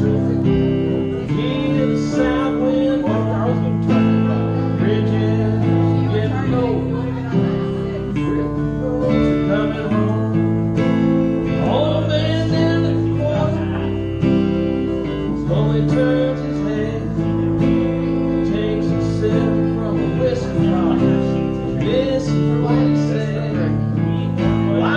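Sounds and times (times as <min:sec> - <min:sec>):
acoustic guitar strumming: 0:00.0 - 0:24.9
man singing: 0:00.0 - 0:24.9.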